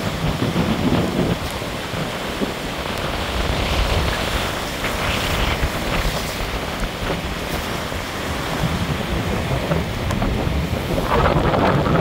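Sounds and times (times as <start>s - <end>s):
storm surf breaking: 0.0s - 12.0s
wind buffeting microphone: 0.0s - 12.0s.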